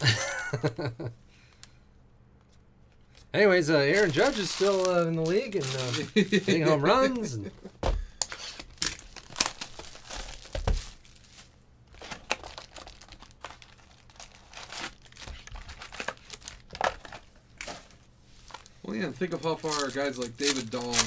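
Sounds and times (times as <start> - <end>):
wrappers crinkling and tearing: 3.0 - 7.3, 8.4 - 21.0.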